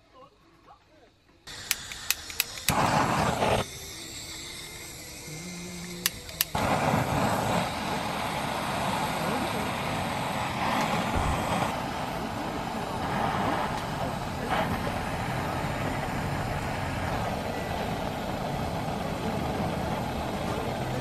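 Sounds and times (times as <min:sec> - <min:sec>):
gas torch hissing: 0:01.5 - 0:21.0.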